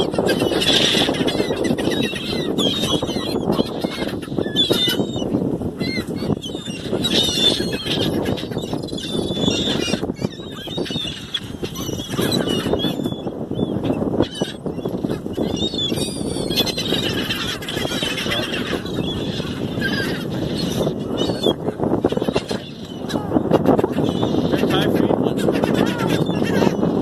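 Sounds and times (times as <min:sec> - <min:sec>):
gulls squawking: 0:00.0 - 0:27.0.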